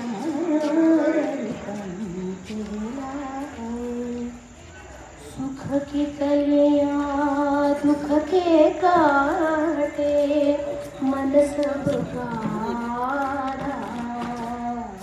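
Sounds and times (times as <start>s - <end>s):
woman singing into a microphone: 0.0s - 4.6s, 5.3s - 15.0s.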